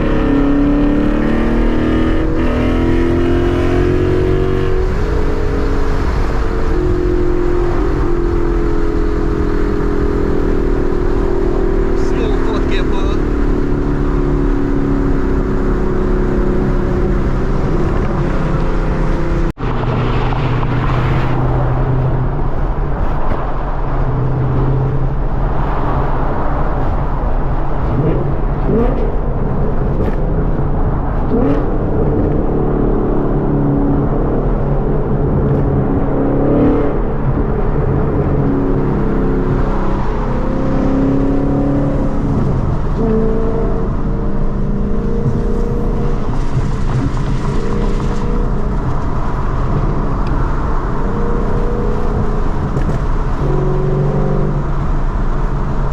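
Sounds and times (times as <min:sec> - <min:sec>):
car engine and exhaust revving: 0:00.0 - 0:55.9.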